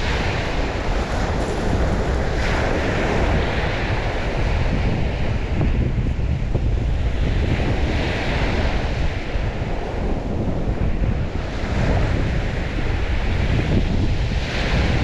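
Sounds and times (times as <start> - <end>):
heavy low rumble: 0.0 - 15.0
wind buffeting microphone: 0.0 - 15.0.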